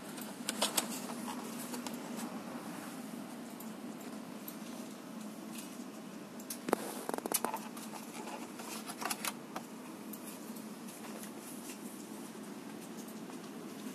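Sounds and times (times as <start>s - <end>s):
low room hum: 0.0s - 13.9s.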